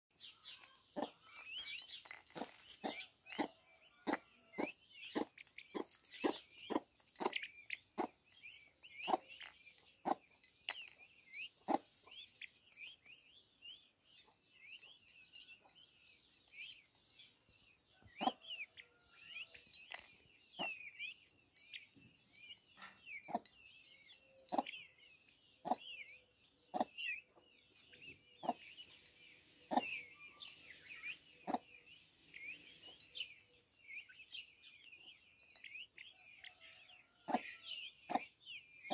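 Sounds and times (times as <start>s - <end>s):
chicks peeping: 0.2s - 38.9s.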